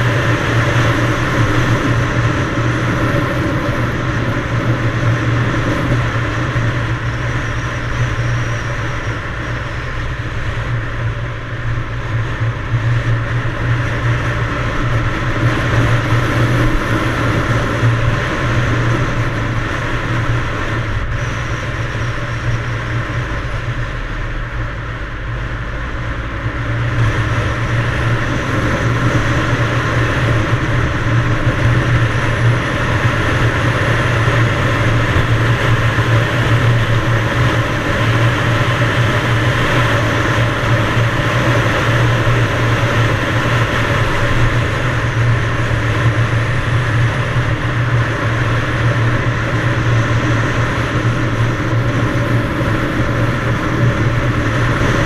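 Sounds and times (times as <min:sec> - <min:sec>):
dirt bike engine running: 0:00.0 - 0:55.0
rush of wind noise: 0:00.0 - 0:55.0.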